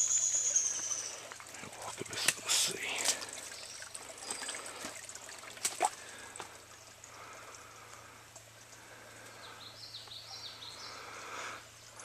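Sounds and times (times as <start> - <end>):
small creek trickling: 0.0 - 12.0.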